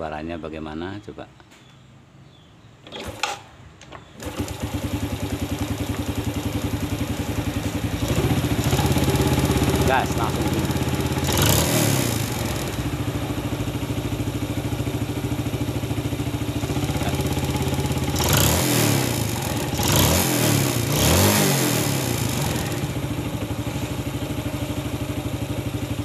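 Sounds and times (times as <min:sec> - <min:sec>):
motorcycle engine idling: 0:04.0 - 0:26.0.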